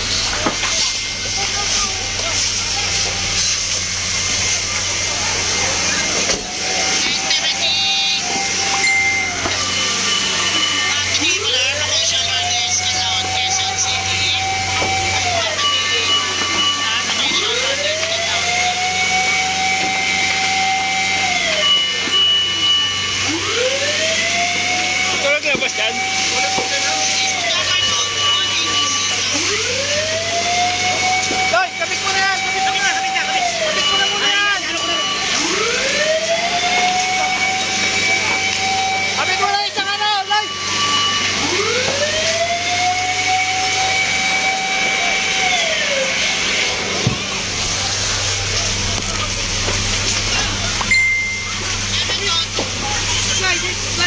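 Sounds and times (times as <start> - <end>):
mechanical siren wailing: 0.0 - 54.0.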